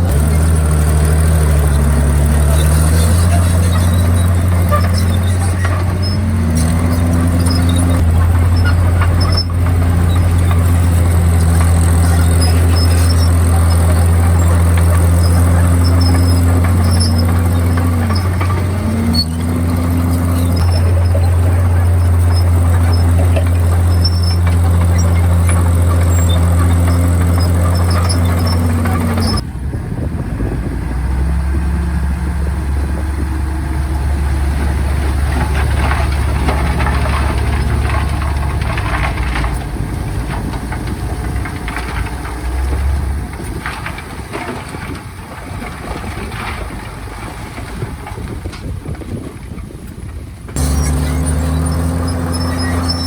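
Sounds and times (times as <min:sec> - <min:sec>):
bulldozer diesel engine running: 0:00.0 - 0:53.0
running gear squealing and clanking: 0:00.0 - 0:53.0.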